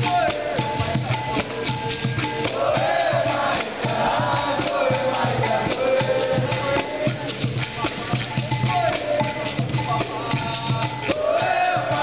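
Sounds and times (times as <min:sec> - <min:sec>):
group singing: 0:00.0 - 0:12.0
pandeiro beat: 0:00.0 - 0:12.0.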